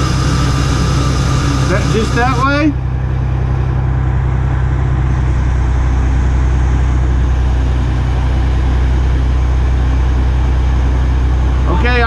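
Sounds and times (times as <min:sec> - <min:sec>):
crane engine droning: 0:00.0 - 0:12.0.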